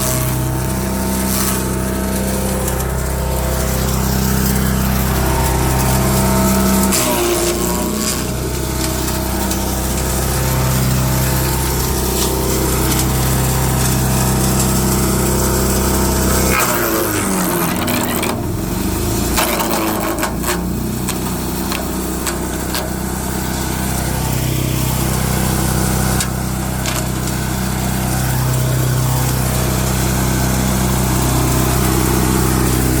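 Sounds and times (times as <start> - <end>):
small gasoline engine running: 0.0 - 33.0.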